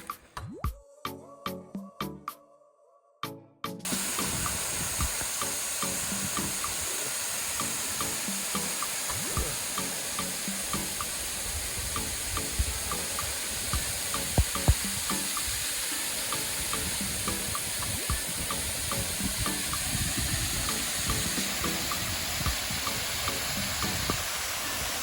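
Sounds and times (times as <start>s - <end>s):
background music with beat: 0.0s - 2.4s, 3.2s - 25.0s
flowing water rushing: 3.9s - 25.0s.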